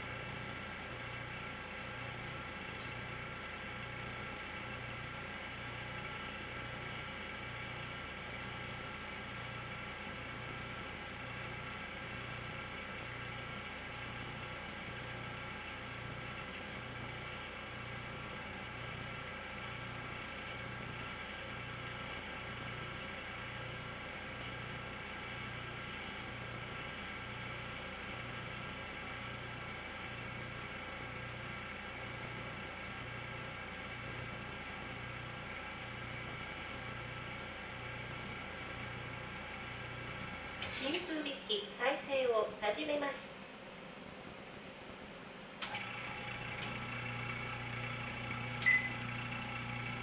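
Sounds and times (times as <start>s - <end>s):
machinery humming: 0.0s - 50.0s.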